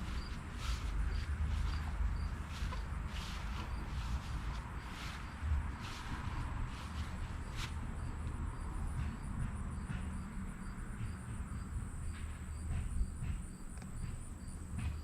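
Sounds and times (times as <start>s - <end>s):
crickets trilling and chirping: 0.0s - 15.0s.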